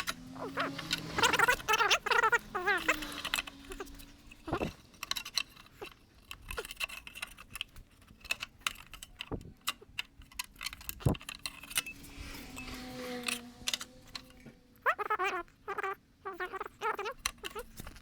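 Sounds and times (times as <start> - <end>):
light metallic clicks and clinks: 0.0 - 14.7.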